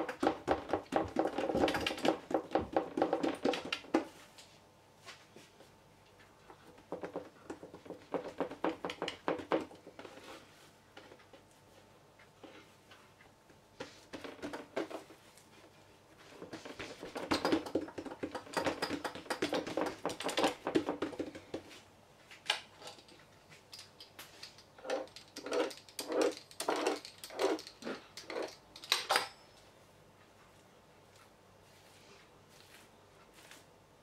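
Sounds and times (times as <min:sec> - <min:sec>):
clicks and taps handling dough: 0:00.0 - 0:28.9.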